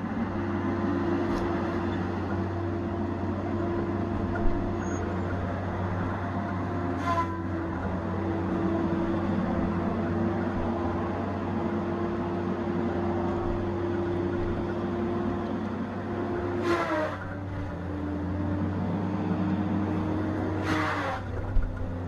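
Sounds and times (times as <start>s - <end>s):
heavy machine engine droning: 0.0s - 22.0s.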